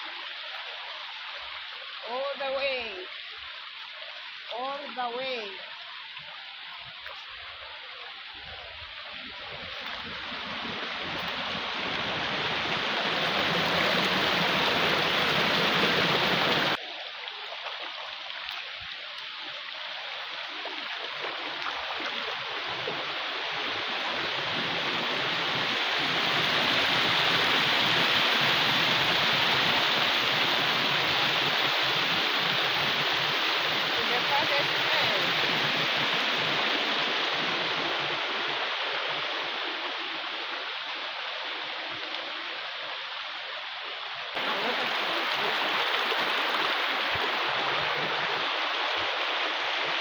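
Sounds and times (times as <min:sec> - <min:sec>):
river water rushing over rocks: 0:00.0 - 0:50.0.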